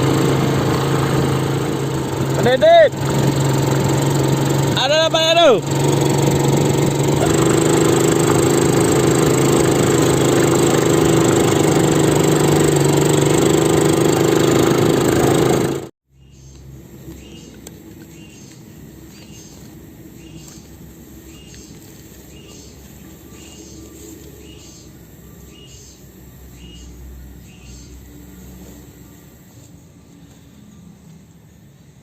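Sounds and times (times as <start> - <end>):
small engine running: 0.0 - 29.8
outdoor ambience: 0.0 - 32.0.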